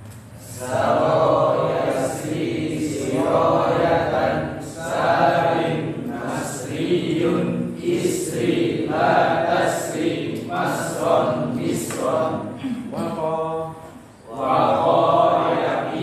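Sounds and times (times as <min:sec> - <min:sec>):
group of voices chanting in unison: 0:00.4 - 0:16.0.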